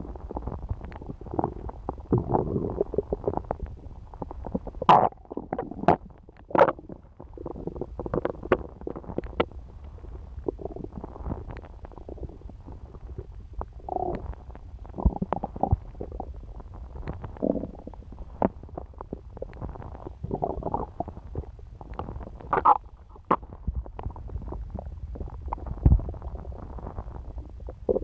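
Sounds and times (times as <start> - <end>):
stomach gurgling and rumbling: 0.0 - 28.0
stomach pops: 0.0 - 28.0.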